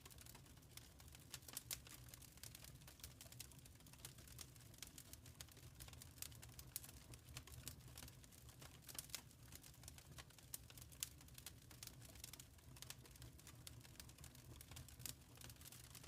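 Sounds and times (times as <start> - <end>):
low rumble of burning logs: 0.0 - 16.0
wood fire crackling and popping: 0.0 - 16.0.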